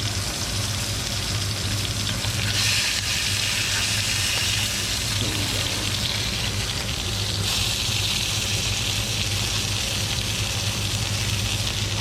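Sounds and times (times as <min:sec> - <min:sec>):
fish frying in hot oil: 0:00.0 - 0:12.0
low steady hum: 0:00.0 - 0:12.0.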